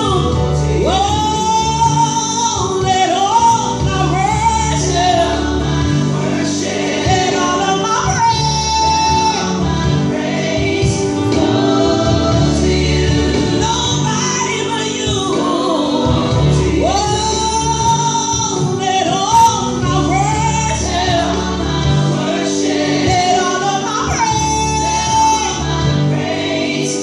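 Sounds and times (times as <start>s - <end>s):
band with bass and keyboard: 0.0s - 27.0s
woman singing: 0.0s - 27.0s
choir voices: 3.6s - 27.0s.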